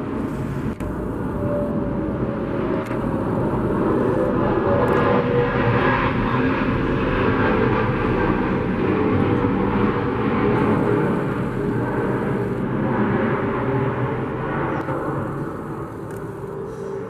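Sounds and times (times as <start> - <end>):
airplane engine rushing: 0.0 - 17.0.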